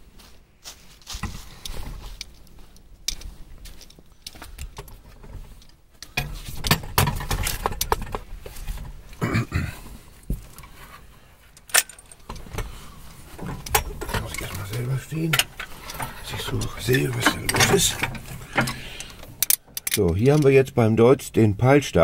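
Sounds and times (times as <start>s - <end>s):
handling clicks and knocks: 1.2s - 9.3s, 10.2s - 20.8s.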